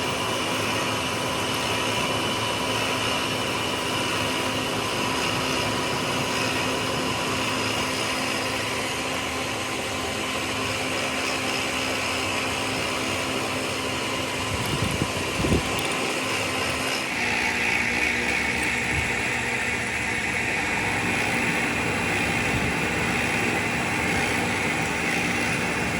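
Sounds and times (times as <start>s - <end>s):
machine humming: 0.0s - 25.9s.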